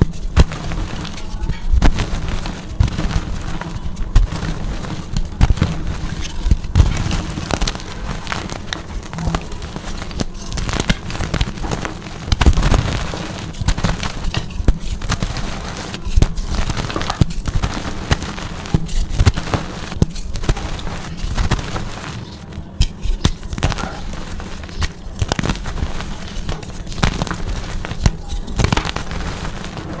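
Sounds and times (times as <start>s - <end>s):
chalk crunching and crackling: 0.0s - 30.0s.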